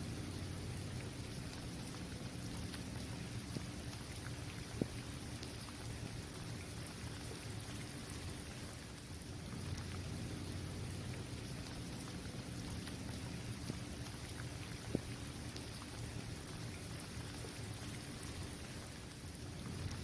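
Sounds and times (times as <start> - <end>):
rain falling on pavement: 0.0 - 20.0
raindrop ticks: 0.2 - 20.0.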